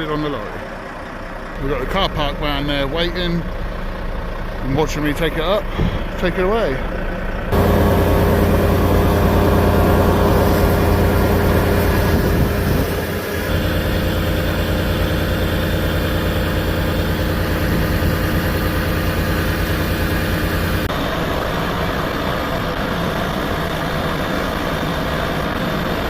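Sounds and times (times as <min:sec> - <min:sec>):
lorry diesel engine running: 0:00.0 - 0:26.0.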